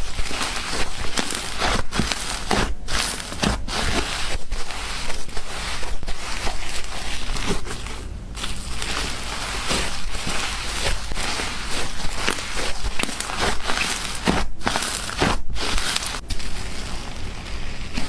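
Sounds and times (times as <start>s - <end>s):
hands squishing slime: 0.0s - 18.0s.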